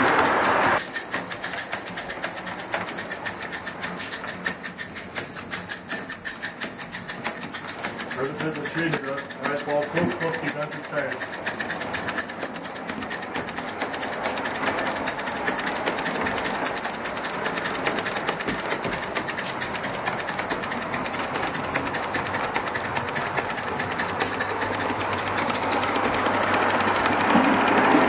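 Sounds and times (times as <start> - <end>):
steam locomotive exhaust beats: 0.0 - 28.0
wheels clattering: 0.0 - 28.0.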